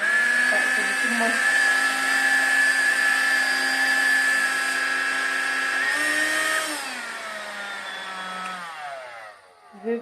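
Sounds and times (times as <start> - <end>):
vacuum motor whining: 0.0 - 10.0.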